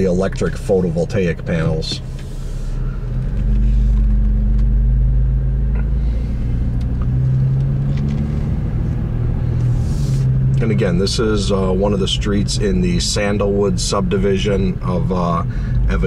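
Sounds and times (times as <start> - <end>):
car engine running: 0.0 - 16.0
road rumble: 0.0 - 16.0.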